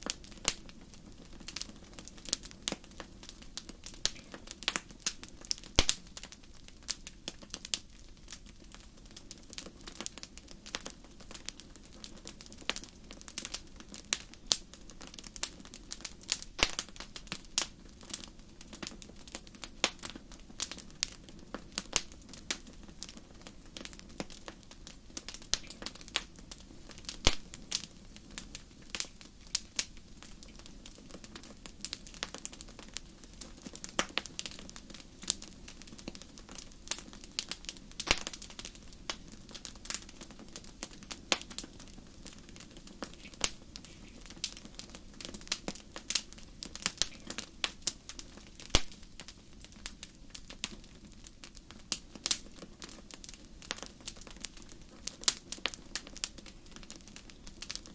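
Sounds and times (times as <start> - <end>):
flames rushing: 0.0 - 50.5
wood fire popping and snapping: 0.0 - 57.9.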